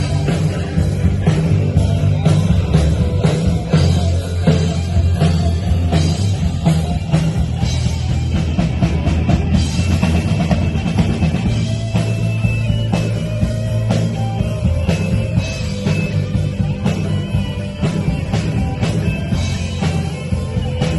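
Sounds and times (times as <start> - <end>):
bass line: 0.0 - 20.9
drum kit beat: 0.0 - 20.9
guitar: 0.0 - 20.9.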